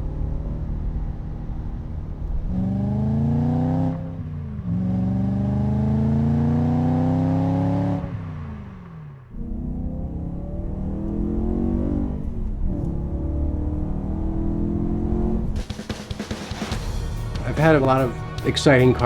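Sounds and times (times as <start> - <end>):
car engine accelerating hard: 0.0 - 15.7.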